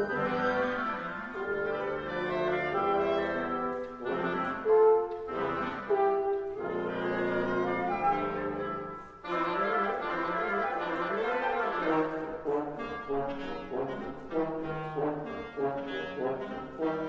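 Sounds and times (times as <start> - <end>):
french horn: 0.0 - 17.0
woodwind quintet chamber music: 0.0 - 17.0.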